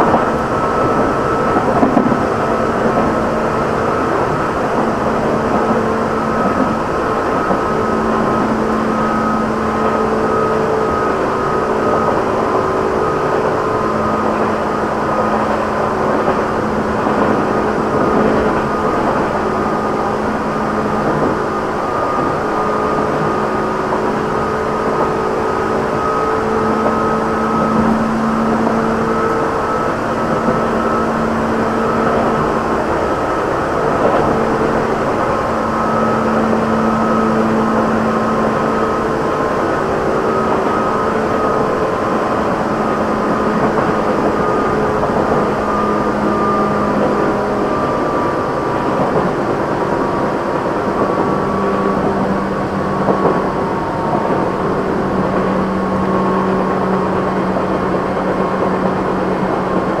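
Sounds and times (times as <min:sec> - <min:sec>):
electric train motor hum: 0:00.0 - 1:00.0
wheel and rail rumble: 0:00.0 - 1:00.0.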